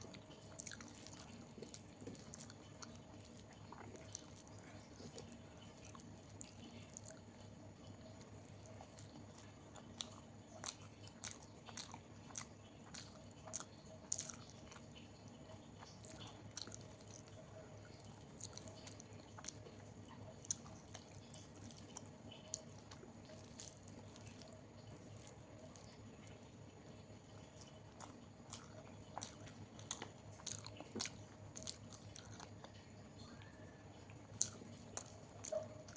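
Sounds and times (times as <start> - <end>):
food crunching: 0.0 - 35.9
person chewing food: 0.0 - 35.9.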